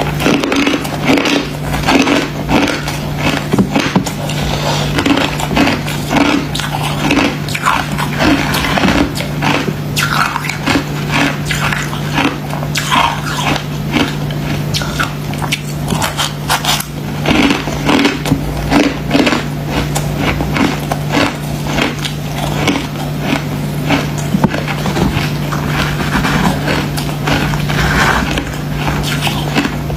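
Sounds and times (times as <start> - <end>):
frost being chewed: 0.0 - 29.9
steady low hum: 0.0 - 29.9.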